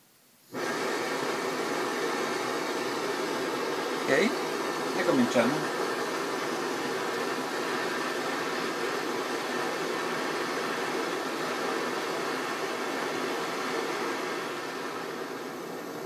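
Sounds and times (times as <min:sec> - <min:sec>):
blowtorch hissing: 0:00.0 - 0:16.0.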